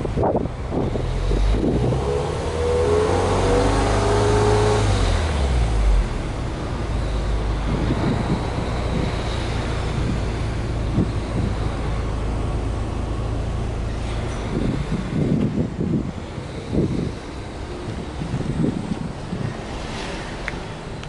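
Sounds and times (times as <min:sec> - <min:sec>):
car engine revving then idling: 0:00.7 - 0:21.0.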